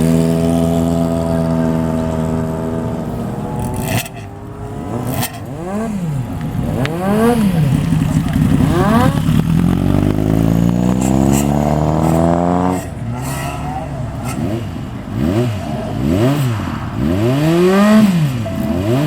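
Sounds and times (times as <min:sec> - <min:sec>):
motorcycle accelerating away: 0:00.0 - 0:19.0
motorcycle revving: 0:00.0 - 0:19.0.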